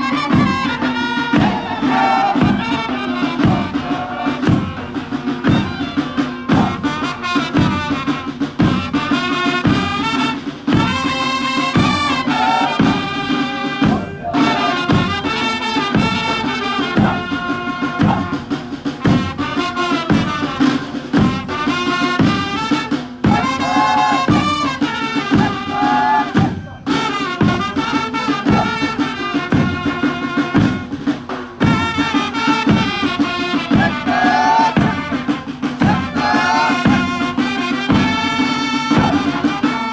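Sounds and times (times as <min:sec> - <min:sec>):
steady drum beat: 0:00.0 - 0:39.9.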